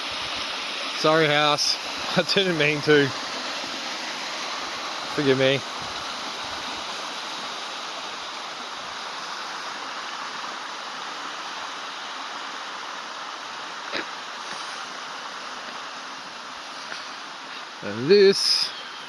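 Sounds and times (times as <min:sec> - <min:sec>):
stream water flowing: 0:00.0 - 0:19.0.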